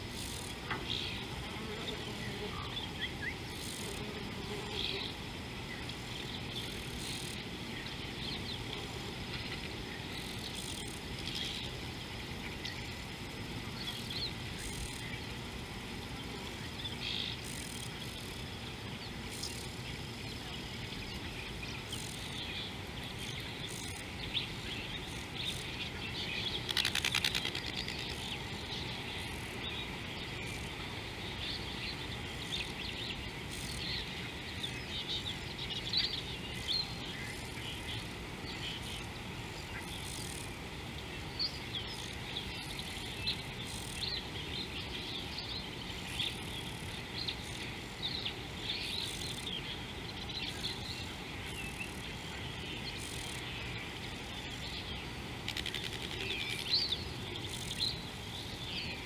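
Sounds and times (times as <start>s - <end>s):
small birds chirping chorus: 0.0s - 59.0s.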